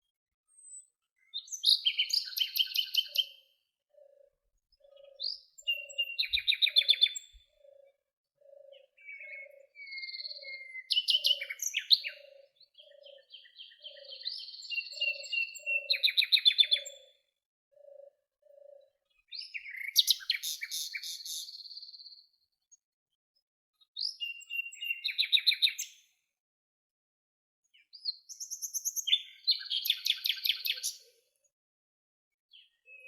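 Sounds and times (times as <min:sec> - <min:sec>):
songbirds singing: 0:00.0 - 0:22.8, 0:23.4 - 0:26.4, 0:27.6 - 0:31.6, 0:32.5 - 0:33.0.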